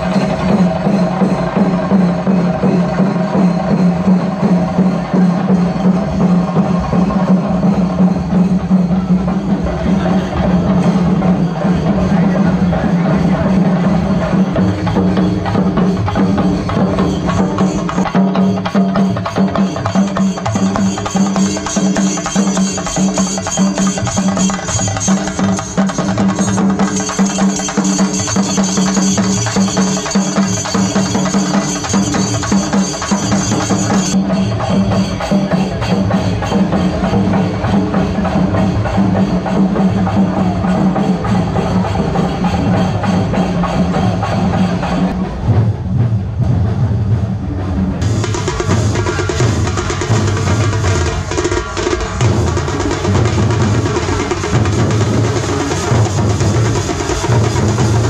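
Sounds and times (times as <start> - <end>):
drums played with sticks: 0.0 - 58.0.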